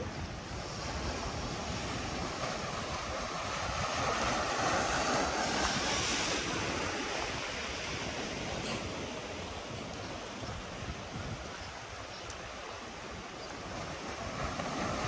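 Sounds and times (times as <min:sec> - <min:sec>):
ocean surf washing onto beach: 0:00.0 - 0:15.0
wind rumbling on microphone: 0:00.0 - 0:15.0.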